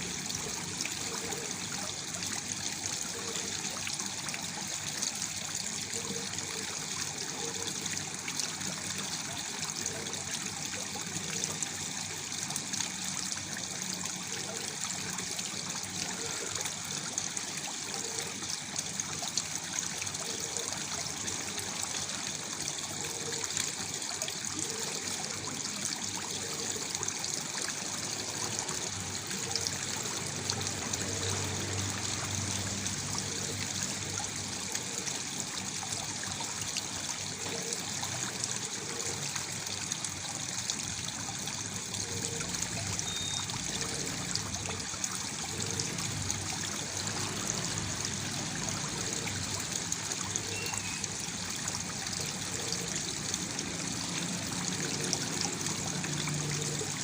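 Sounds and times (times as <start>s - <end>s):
waterfall splashing into pool: 0.0s - 57.0s.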